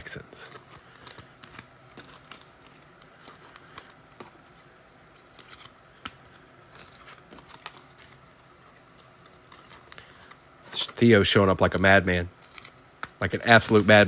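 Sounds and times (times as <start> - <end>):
cards being flipped through: 0.4 - 10.4, 12.3 - 14.0.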